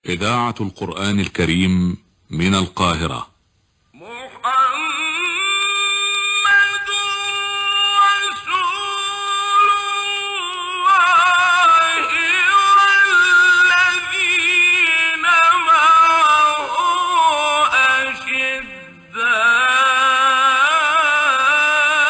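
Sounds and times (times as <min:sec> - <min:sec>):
man chanting melodic recitation: 0:04.3 - 0:22.0.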